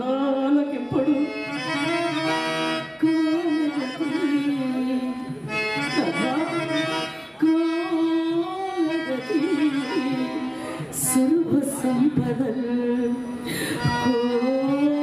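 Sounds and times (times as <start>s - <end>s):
harmonium long held notes: 0.0s - 15.0s.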